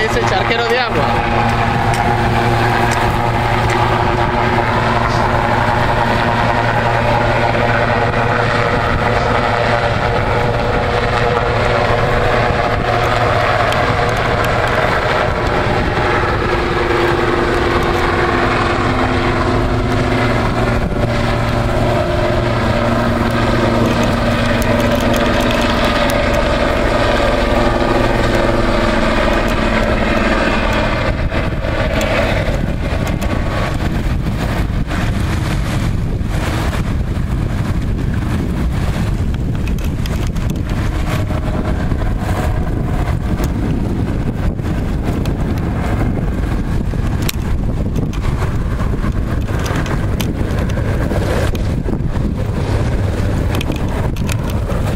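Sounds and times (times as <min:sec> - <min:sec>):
engine drone: 0:00.0 - 0:54.9
wind buffeting microphone: 0:00.0 - 0:54.9.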